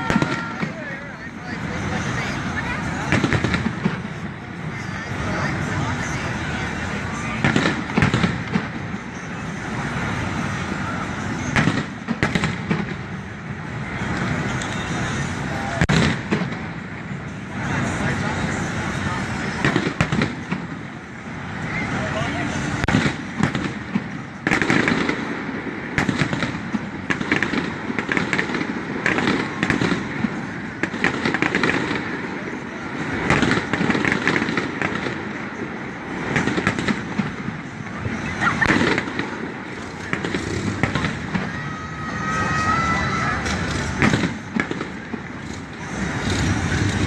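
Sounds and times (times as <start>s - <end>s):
fireworks bangs: 0.0s - 47.0s
fireworks crackling: 0.0s - 47.0s
steady noisy background: 0.0s - 47.0s.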